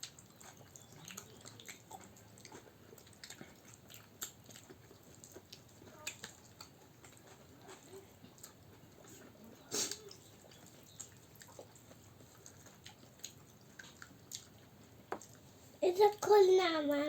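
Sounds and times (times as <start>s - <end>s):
people chewing: 0.0s - 16.5s.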